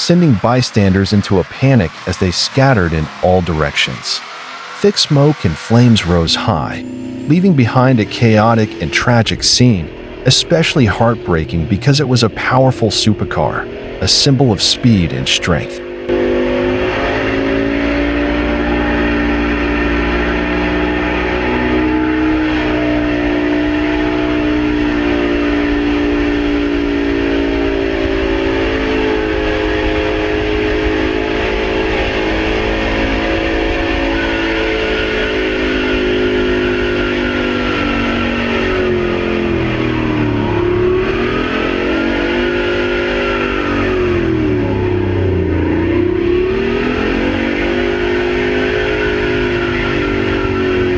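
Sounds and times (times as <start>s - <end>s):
engine running at high revs: 0.0s - 50.9s.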